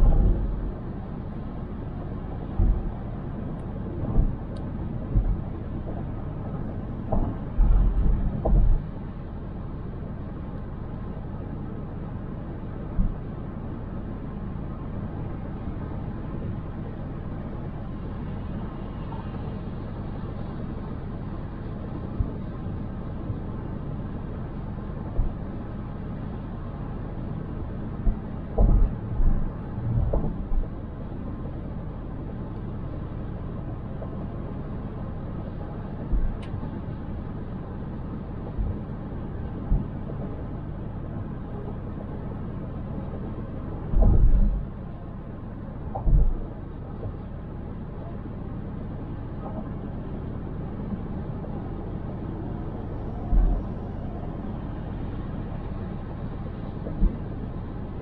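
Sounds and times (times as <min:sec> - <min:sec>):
car tyre and road noise: 0:00.0 - 0:58.0.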